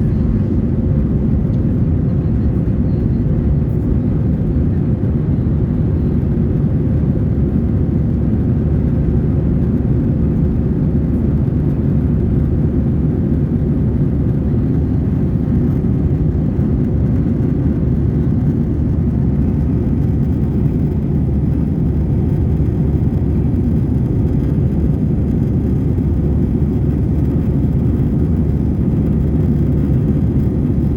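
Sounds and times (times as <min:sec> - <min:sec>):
airplane cabin engine rumble: 0:00.0 - 0:30.9.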